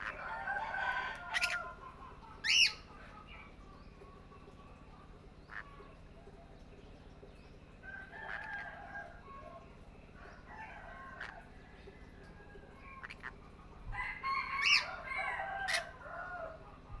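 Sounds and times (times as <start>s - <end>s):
held level bird calls: 0.0s - 17.0s.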